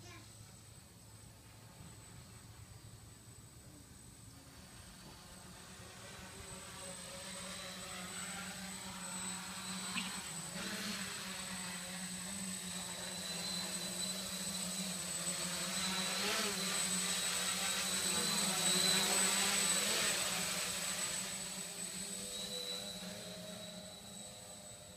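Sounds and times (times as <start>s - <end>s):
quadcopter motors buzzing: 0.0s - 24.9s.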